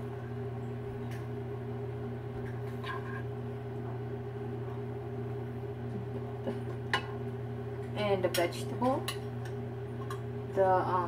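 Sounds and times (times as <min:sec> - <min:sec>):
kitchen appliance electrical hum: 0:00.0 - 0:11.0.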